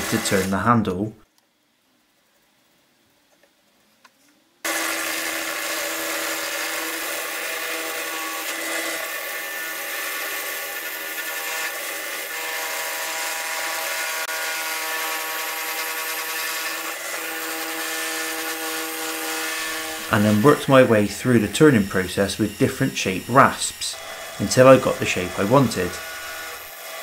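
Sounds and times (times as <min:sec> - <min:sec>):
drill press motor hum: 0:00.0 - 0:00.6, 0:04.7 - 0:27.0
rasp scraping wood: 0:04.7 - 0:26.8.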